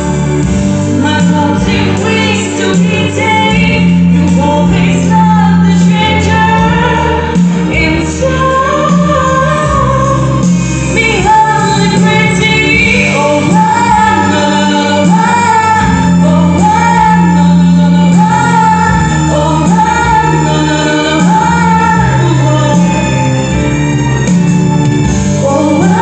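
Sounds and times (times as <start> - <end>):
woman singing: 0.0 - 23.3, 25.4 - 26.0
instrumental backing: 0.0 - 26.0.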